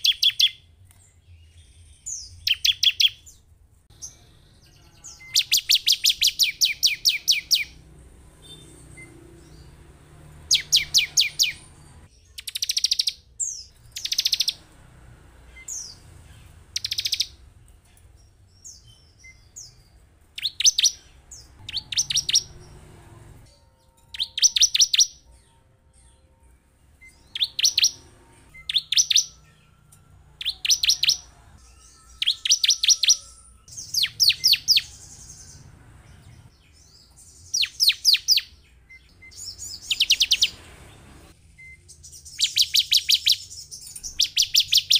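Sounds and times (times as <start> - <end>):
bird trilling song: 0.0 - 14.8, 15.4 - 26.2, 27.0 - 44.9.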